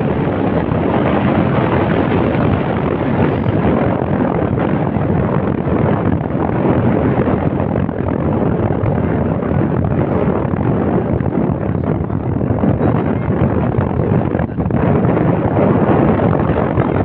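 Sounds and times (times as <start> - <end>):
ship running noise: 0.0 - 17.0
wind across the microphone: 0.0 - 17.0.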